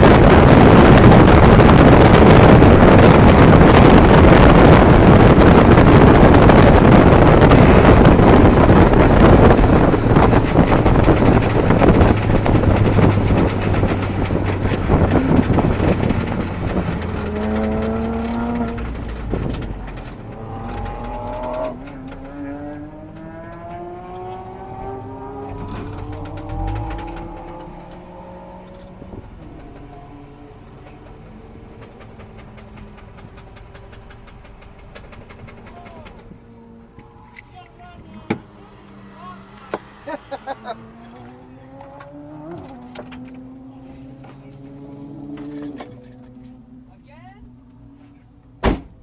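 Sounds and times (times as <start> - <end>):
car engine while driving: 0.0 - 49.0
wind and road noise: 0.0 - 49.0.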